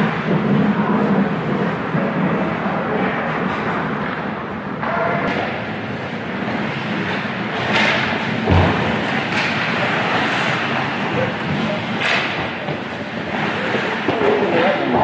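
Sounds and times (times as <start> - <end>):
ice rink noise: 0.0 - 15.0.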